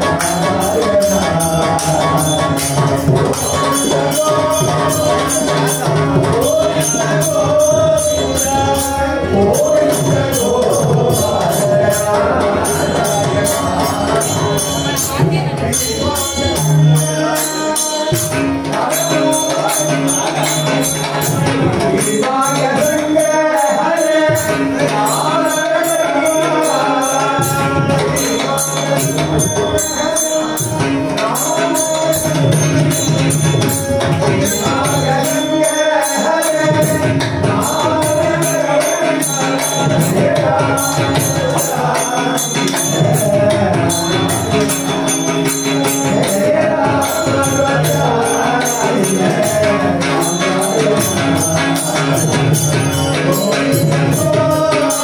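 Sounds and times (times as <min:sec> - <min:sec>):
jingling metal percussion: 0:00.0 - 0:55.0
men singing devotional song: 0:00.0 - 0:55.0.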